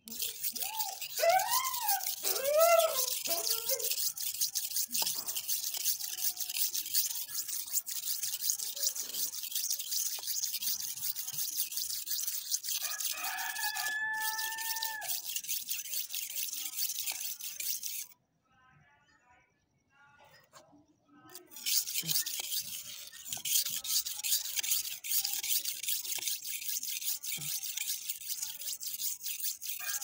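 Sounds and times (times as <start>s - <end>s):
knife scraping on sharpening stone: 0.0s - 18.1s, 21.3s - 30.0s.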